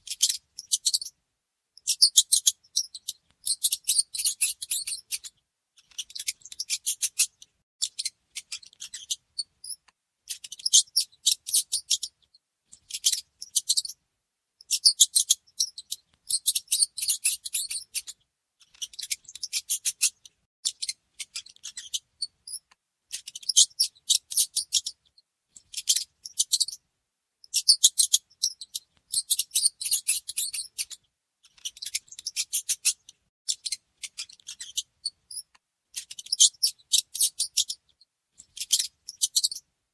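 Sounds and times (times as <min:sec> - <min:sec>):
mice squeaking: 0:00.0 - 0:01.2, 0:01.8 - 0:14.0, 0:14.6 - 0:26.8, 0:27.4 - 0:39.6.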